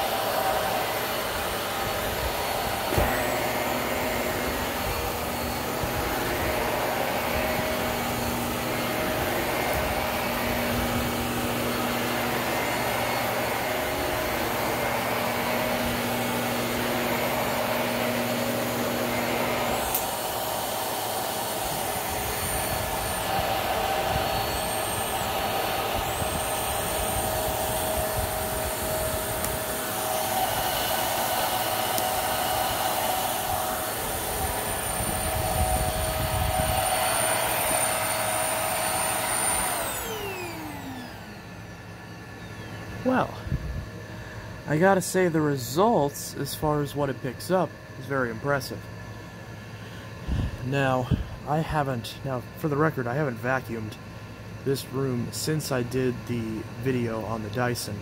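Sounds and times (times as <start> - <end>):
vacuum cleaner running on carpet: 0.0 - 51.7.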